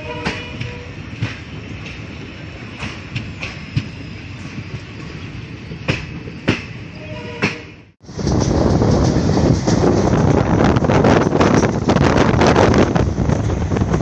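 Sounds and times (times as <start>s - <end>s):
train coaches rumbling: 0.0s - 14.0s
wheels clicking over rail joints: 0.0s - 14.0s.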